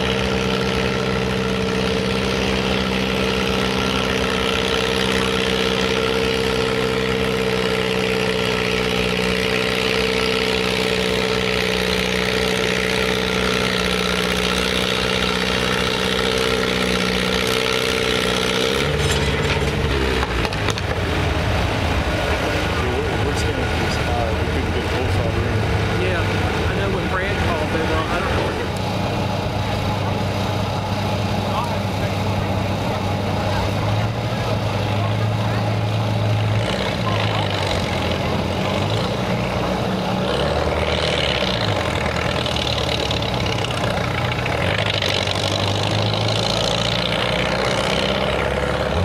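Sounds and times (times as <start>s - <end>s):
tractor engine under heavy load: 0.0s - 49.0s.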